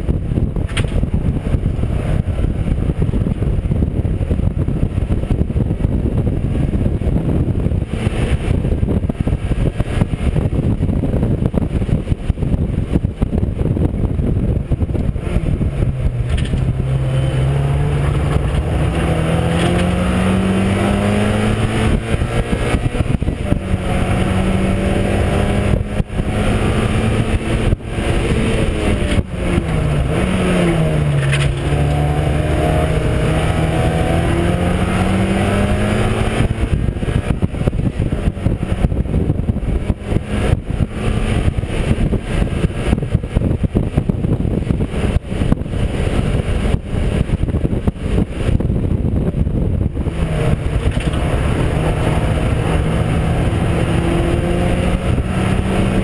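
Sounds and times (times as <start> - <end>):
race car engine revving: 0.8 - 56.0.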